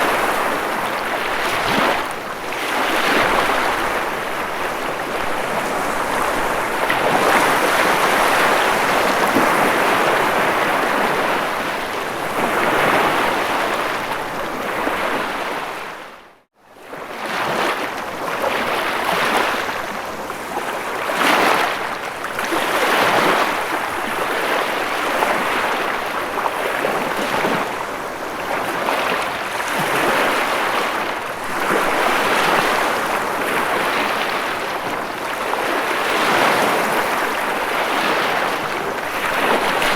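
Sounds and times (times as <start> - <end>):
ocean waves breaking: 0.0 - 16.0, 17.0 - 39.9.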